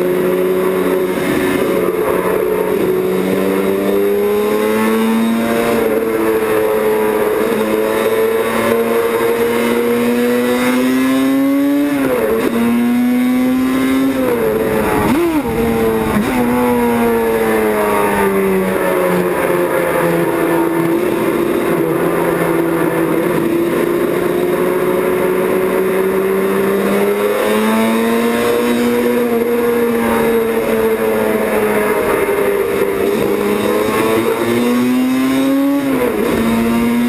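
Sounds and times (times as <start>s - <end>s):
racing motorcycle engines: 0.0s - 37.0s.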